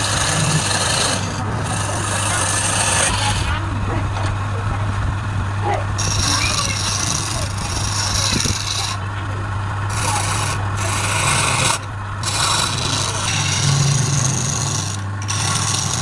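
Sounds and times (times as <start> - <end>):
lathe humming: 0.0 - 16.0
tool scraping spinning workpiece: 0.0 - 16.0.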